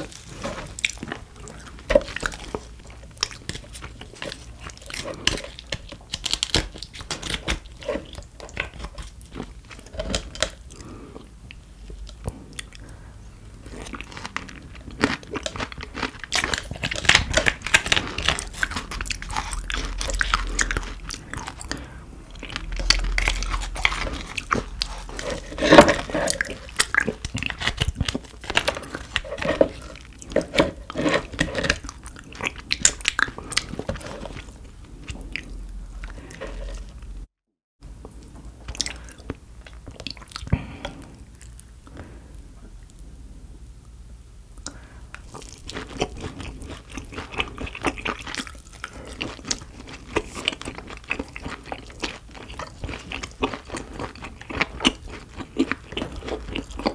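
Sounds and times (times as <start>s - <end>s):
person chewing food: 0.0s - 37.3s, 38.0s - 43.1s, 44.6s - 56.9s.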